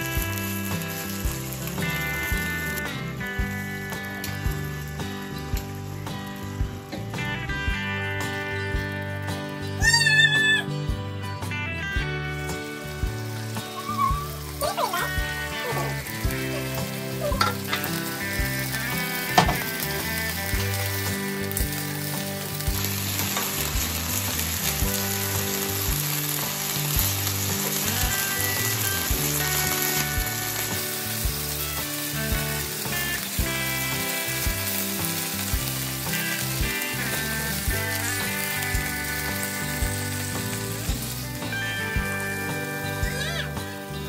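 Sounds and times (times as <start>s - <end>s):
steaks sizzling on grill pan: 0.0s - 9.8s, 10.6s - 44.0s
background music: 0.0s - 44.0s.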